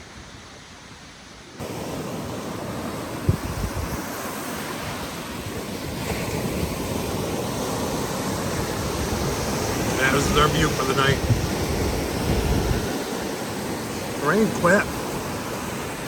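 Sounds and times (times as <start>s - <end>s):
waves washing onto beach: 0.0s - 16.0s
wind buffeting microphone: 1.6s - 16.0s.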